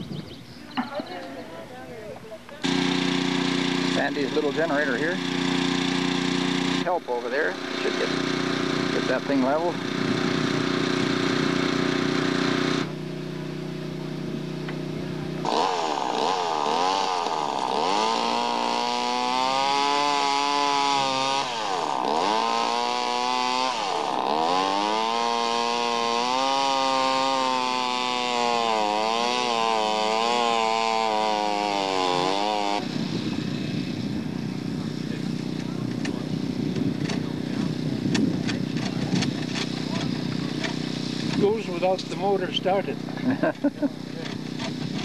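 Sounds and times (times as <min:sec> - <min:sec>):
steady engine hum: 0:00.0 - 0:45.0
chainsaw engine revving: 0:02.6 - 0:45.0.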